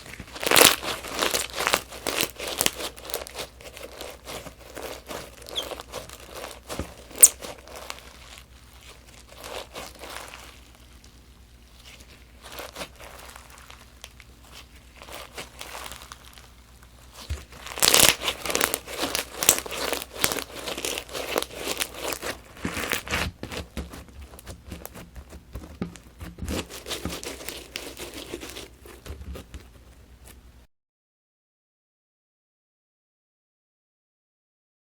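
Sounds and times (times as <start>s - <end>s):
crunchy slime being squeezed: 0.0s - 30.3s.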